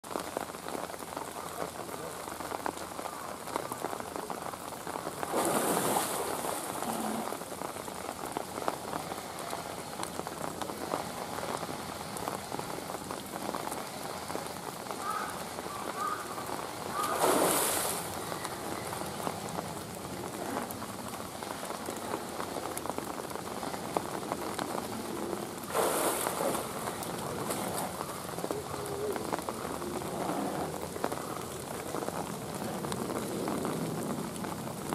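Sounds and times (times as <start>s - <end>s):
rain pattering on water and rock: 0.0s - 34.9s
rush of water: 0.1s - 34.9s.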